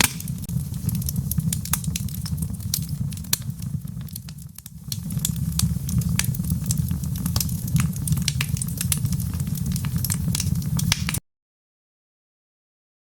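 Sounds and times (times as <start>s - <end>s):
wood fire crackling and popping: 0.0s - 11.2s.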